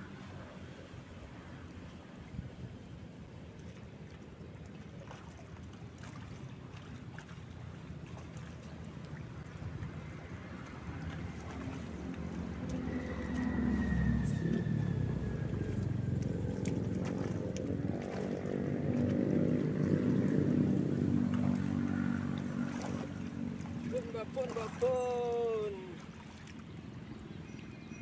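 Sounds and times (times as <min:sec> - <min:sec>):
wading through water: 0:00.0 - 0:28.0.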